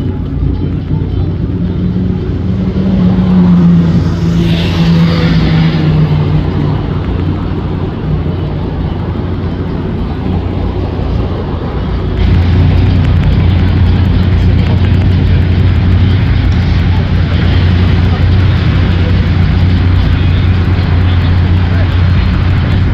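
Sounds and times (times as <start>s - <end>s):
traffic engines droning: 0.0s - 22.9s.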